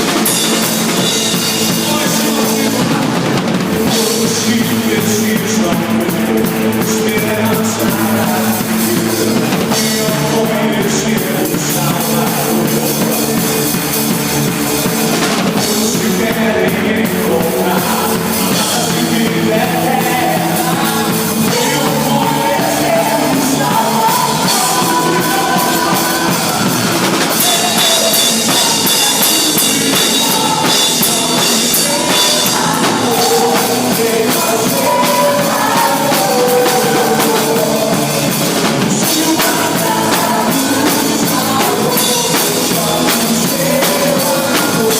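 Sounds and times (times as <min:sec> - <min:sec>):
band music with singing: 0:00.0 - 0:44.9.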